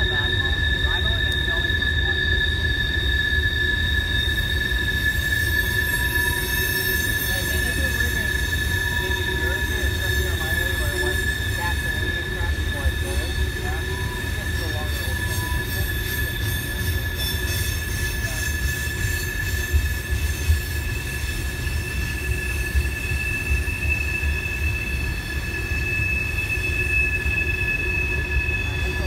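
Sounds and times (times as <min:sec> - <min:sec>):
train rumble: 0:00.0 - 0:29.0
train wheels squealing: 0:00.0 - 0:29.0.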